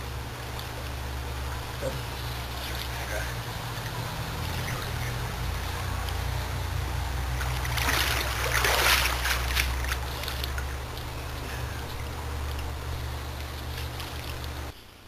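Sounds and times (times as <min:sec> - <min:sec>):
pool water splashing: 0:00.0 - 0:15.0
steady low hum: 0:00.0 - 0:15.0.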